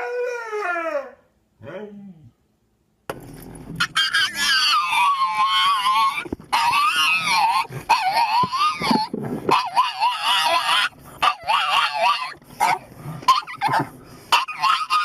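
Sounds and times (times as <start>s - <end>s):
dog whining and howling: 0.0s - 2.3s, 3.8s - 15.0s.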